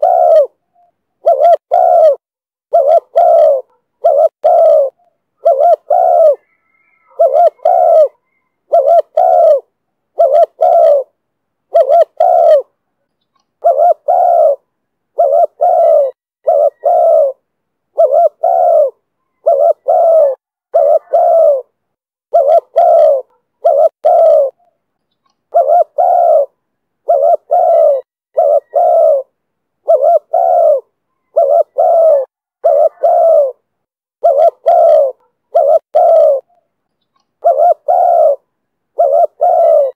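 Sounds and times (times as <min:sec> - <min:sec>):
dove cooing: 0:00.0 - 0:12.8, 0:13.6 - 0:24.8, 0:25.5 - 0:36.7, 0:37.4 - 0:39.9.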